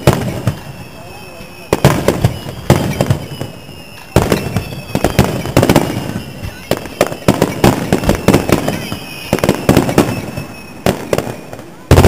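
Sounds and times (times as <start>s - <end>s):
fireworks bursting with sharp bangs: 0.0s - 12.0s.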